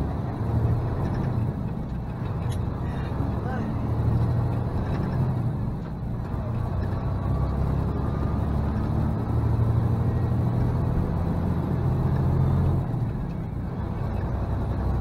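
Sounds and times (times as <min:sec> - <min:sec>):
diesel truck engine droning: 0:00.0 - 0:15.0
road noise: 0:00.0 - 0:15.0.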